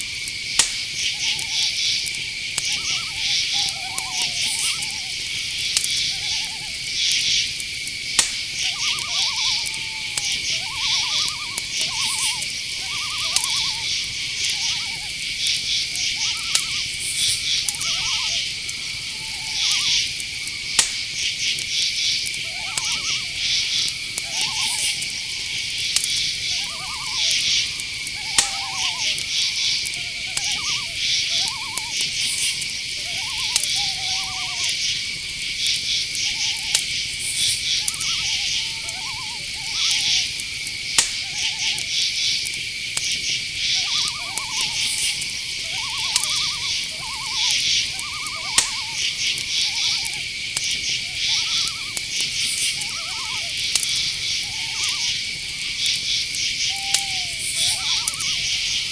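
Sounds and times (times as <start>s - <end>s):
crickets chirping: 0.0s - 58.9s
high-pitched insect drone: 0.0s - 58.9s
sharp clicks: 0.2s - 58.9s
short pitched calls: 1.0s - 21.5s, 22.1s - 58.9s.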